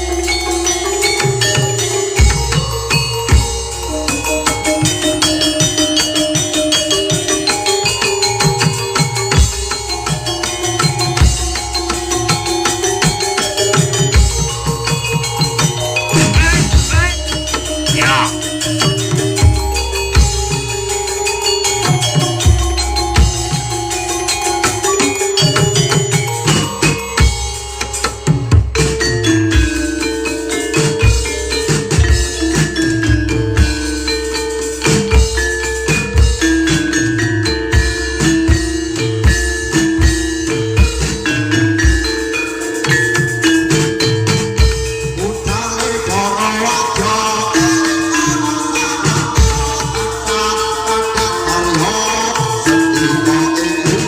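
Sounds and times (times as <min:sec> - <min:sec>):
ringing metallophone tones: 0:00.0 - 0:54.0
steady drum beat: 0:00.0 - 0:54.0
wavering high melodic line: 0:00.0 - 0:54.0.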